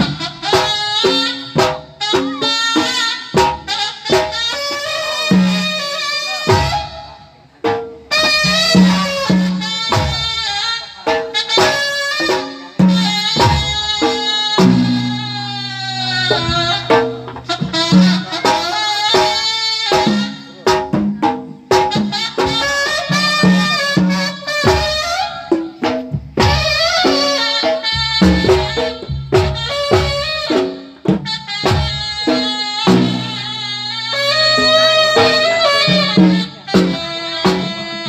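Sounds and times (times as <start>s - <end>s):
hand drum strokes: 0.0s - 38.0s
reed wind instrument melody: 0.0s - 38.0s.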